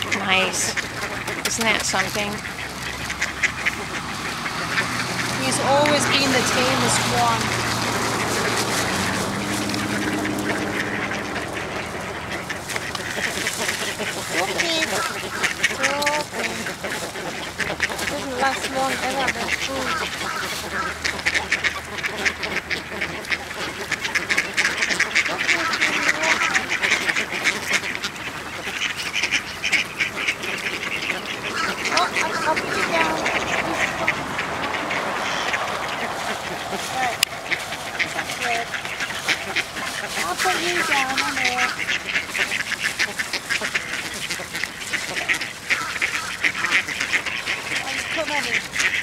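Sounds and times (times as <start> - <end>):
low steady hum: 0.0 - 48.9
ducks quacking: 0.0 - 49.0.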